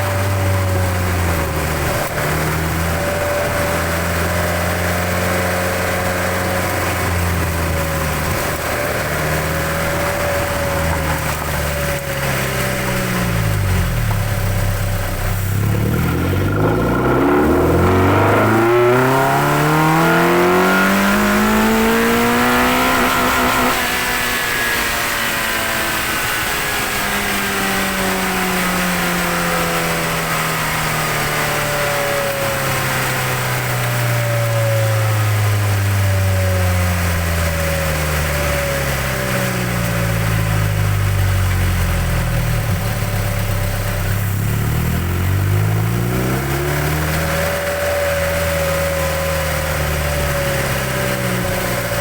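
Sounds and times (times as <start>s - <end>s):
car engine revving with intake noise: 0.0s - 52.0s.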